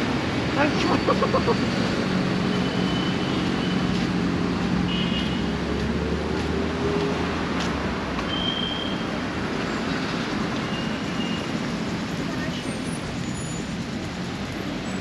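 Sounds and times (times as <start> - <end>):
cars passing on road: 0.0 - 15.0.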